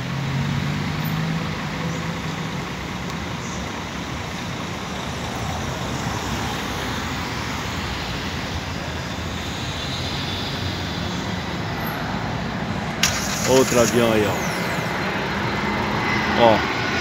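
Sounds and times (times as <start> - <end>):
city street traffic: 0.0 - 17.0.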